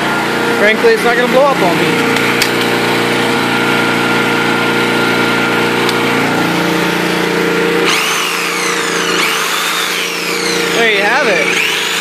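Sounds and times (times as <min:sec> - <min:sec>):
electric jigsaw motor whine: 0:00.0 - 0:12.0
generator engine running: 0:00.0 - 0:12.0.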